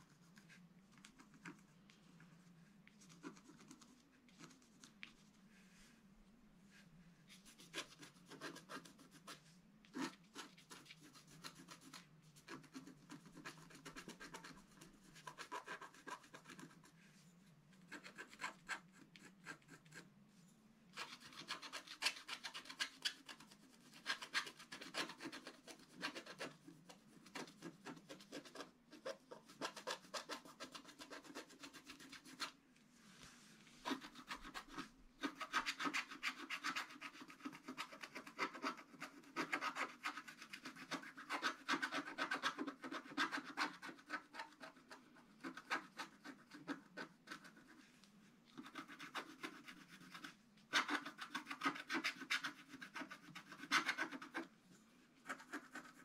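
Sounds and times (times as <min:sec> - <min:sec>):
stylus scratching paper: 0:03.0 - 0:04.9, 0:07.3 - 0:17.0, 0:17.7 - 0:20.1, 0:20.9 - 0:32.6, 0:33.6 - 0:54.5, 0:55.2 - 0:56.0.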